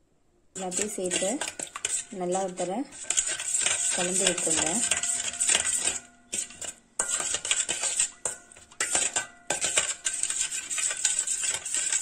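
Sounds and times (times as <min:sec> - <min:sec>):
spoon scraping metal bowl: 0:00.6 - 0:12.0.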